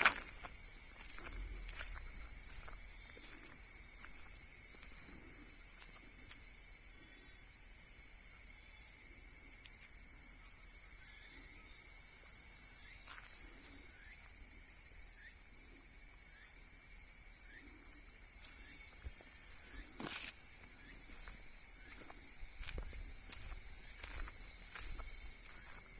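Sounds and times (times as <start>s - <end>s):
insect chirps: 0.0s - 25.9s
insects chorus: 0.0s - 25.9s.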